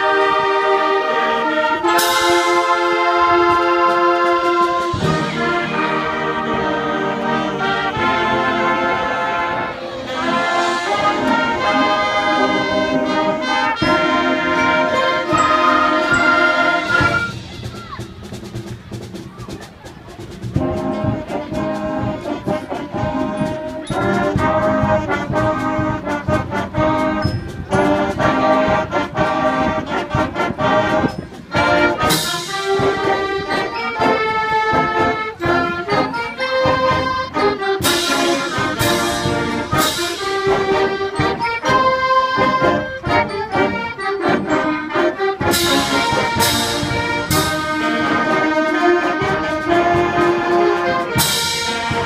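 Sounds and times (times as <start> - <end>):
concert band playing: 0.0 - 52.0
percussion: 1.4 - 8.7, 9.8 - 52.0.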